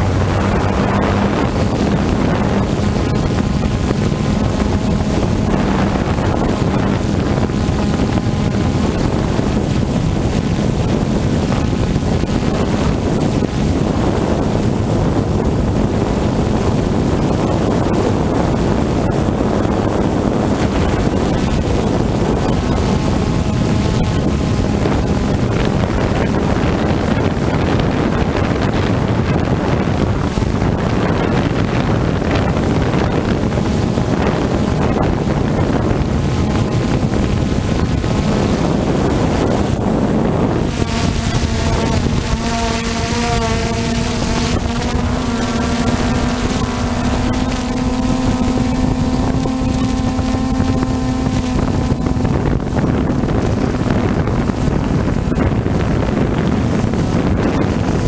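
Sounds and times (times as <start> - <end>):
drone motors whirring: 0.0 - 58.0
wind on microphone: 0.0 - 58.0.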